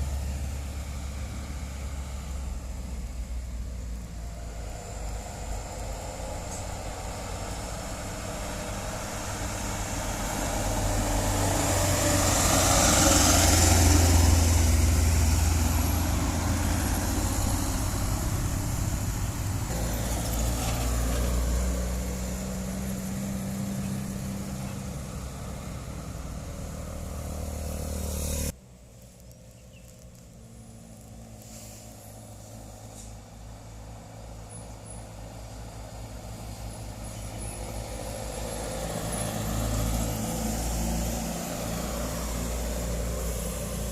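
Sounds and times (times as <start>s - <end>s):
heavy truck engine passing: 0.0s - 28.6s, 30.4s - 43.9s
traffic noise: 0.0s - 43.9s.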